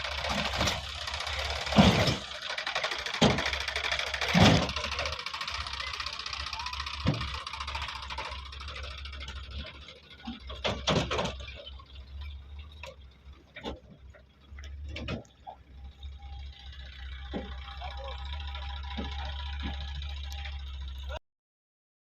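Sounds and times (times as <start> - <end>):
engine running low: 0.0 - 21.2.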